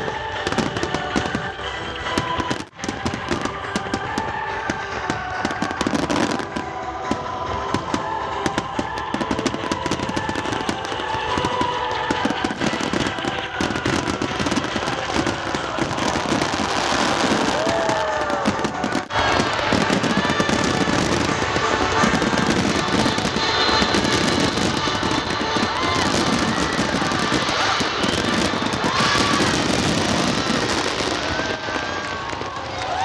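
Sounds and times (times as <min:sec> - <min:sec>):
firework bursts and crackling: 0:00.0 - 0:33.0
music playing: 0:00.0 - 0:33.0.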